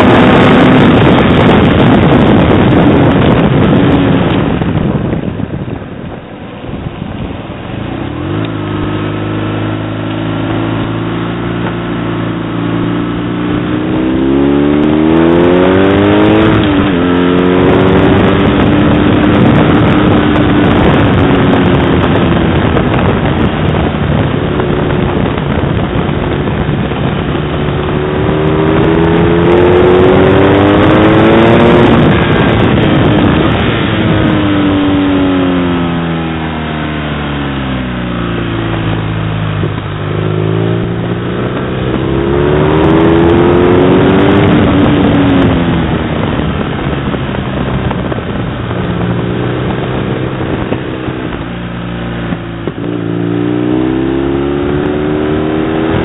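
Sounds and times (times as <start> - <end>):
motorcycle engine accelerating: 0.0 - 56.0
wind rushing over microphone: 0.0 - 56.0.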